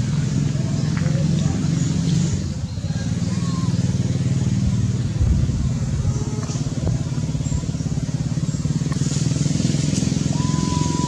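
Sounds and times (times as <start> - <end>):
engine running with pulsing drone: 0.0 - 11.0.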